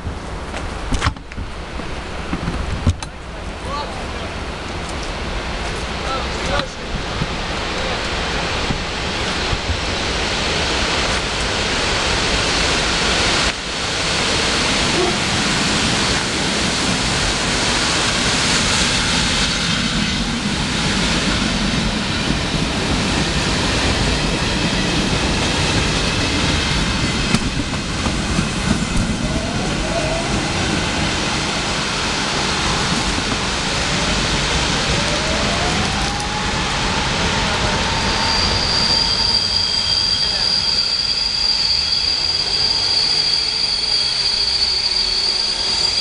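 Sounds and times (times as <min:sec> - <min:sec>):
passenger train passing: 0:00.0 - 0:46.0.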